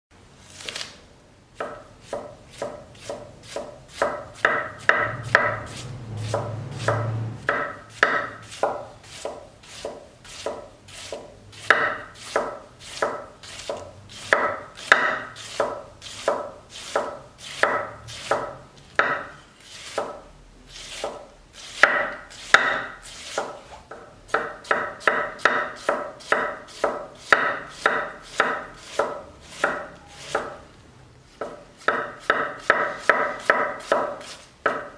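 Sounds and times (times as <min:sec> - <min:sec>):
knife slicing cabbage on wooden board: 0:01.6 - 0:30.6, 0:31.4 - 0:34.9.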